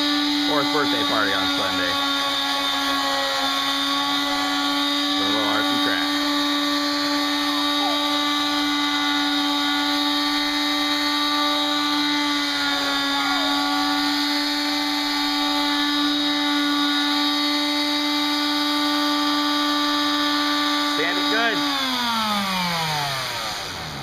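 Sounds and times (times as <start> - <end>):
electric sander whining: 0.0 - 24.0.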